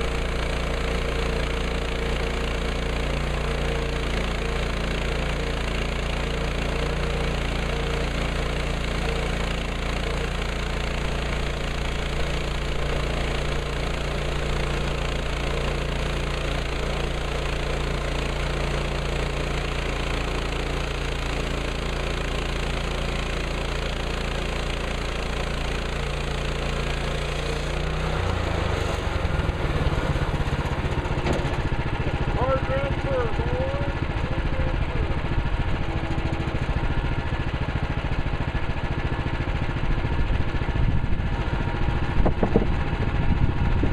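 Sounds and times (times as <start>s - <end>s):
gasoline engine running: 0.0s - 43.9s.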